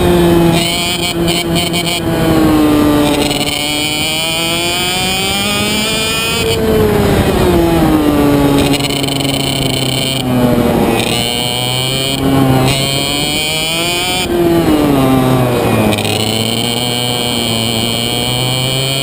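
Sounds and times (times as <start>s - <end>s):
kart engine at racing speed: 0.0s - 19.0s.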